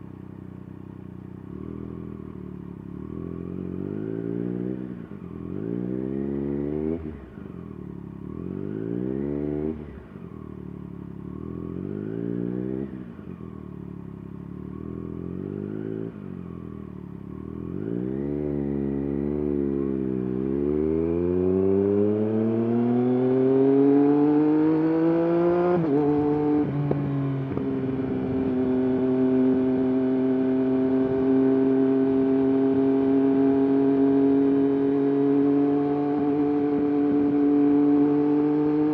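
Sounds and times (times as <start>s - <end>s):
motorcycle engine revving: 0.7s - 38.9s.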